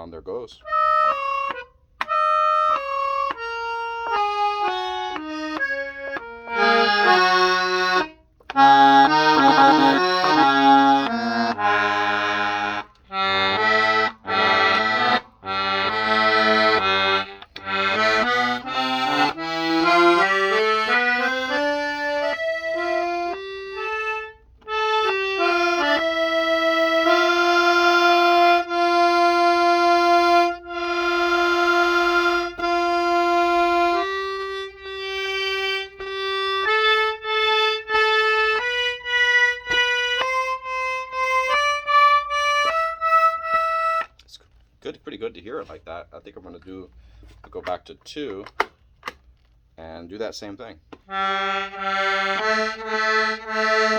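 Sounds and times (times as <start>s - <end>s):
accordion notes: 0.0s - 49.6s, 50.2s - 53.9s.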